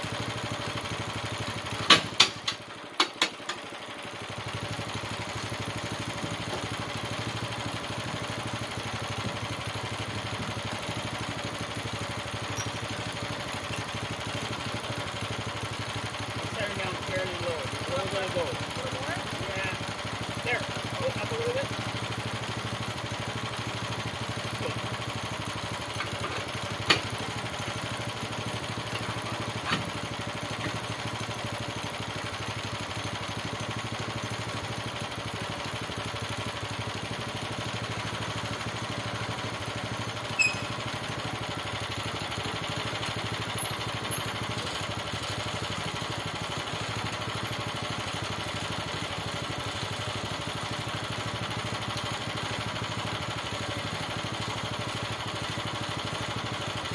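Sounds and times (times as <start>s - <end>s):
small gasoline engine idling: 0.0s - 56.9s.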